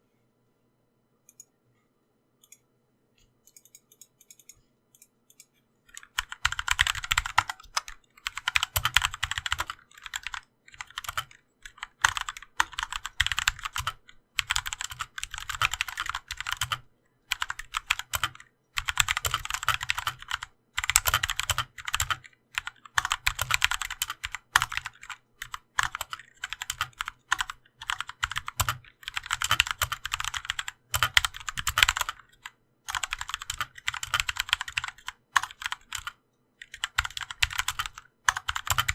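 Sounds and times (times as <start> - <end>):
mechanical keyboard typing: 3.5 - 38.9.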